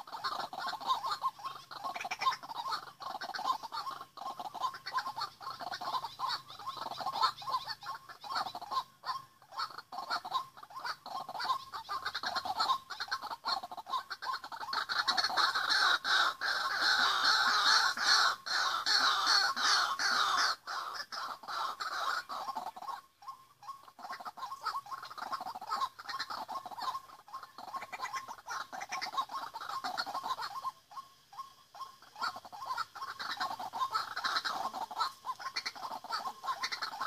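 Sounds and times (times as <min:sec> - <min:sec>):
waterhens calling: 0:00.0 - 0:37.0.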